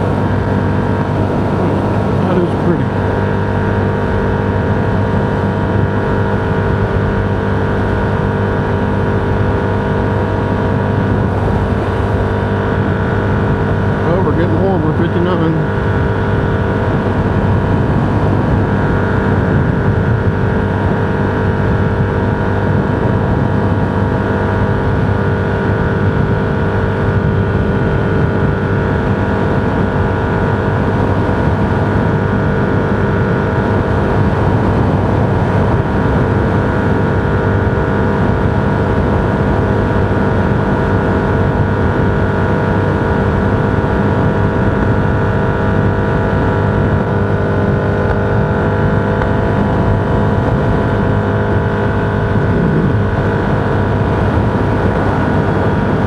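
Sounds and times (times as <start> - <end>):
engine drone: 0.0 - 56.0
road noise rumble: 0.0 - 56.0.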